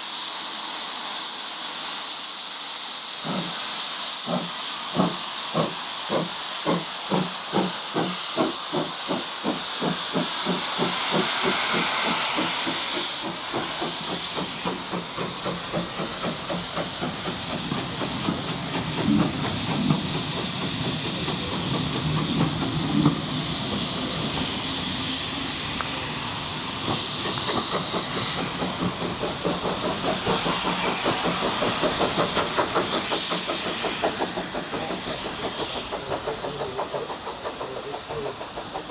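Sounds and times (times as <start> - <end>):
hiss of steam: 0.0 - 38.9
steam locomotive chuffing: 0.0 - 38.9.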